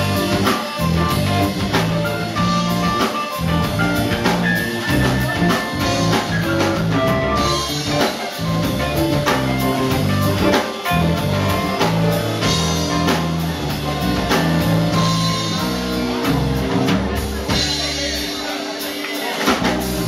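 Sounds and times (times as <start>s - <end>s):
drum kit beat: 0.0s - 20.0s
jazz band playing: 0.0s - 20.0s.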